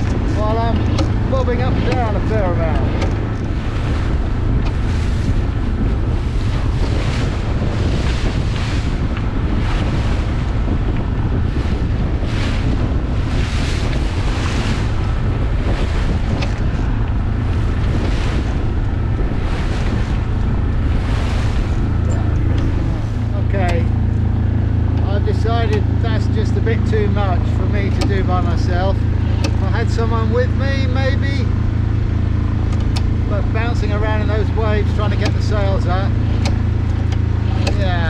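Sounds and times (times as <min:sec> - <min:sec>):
waves splashing against hull: 0:00.0 - 0:38.0
wind buffeting microphone: 0:00.0 - 0:38.0.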